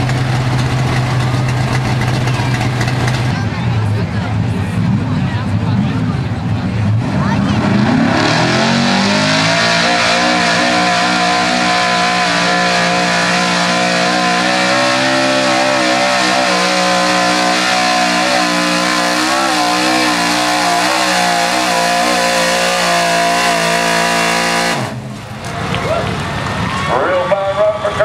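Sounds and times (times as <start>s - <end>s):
pickup truck engine at full revs: 0.0s - 3.4s, 4.7s - 26.7s.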